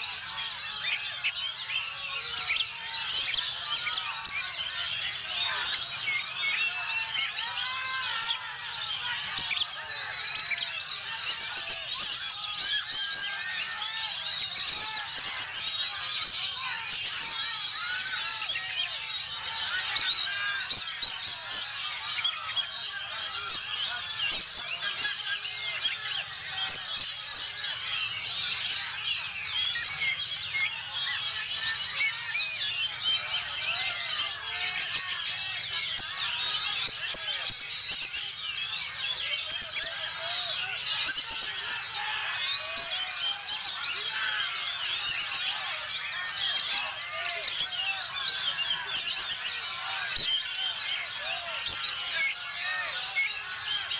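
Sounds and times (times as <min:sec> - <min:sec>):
chorus of birds singing: 0:00.0 - 0:53.9.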